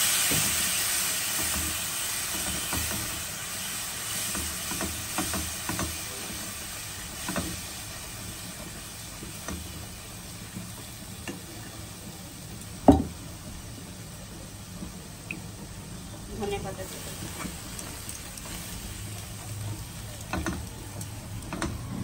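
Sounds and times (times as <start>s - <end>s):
spice paste sizzling in a pan: 0.0s - 22.0s.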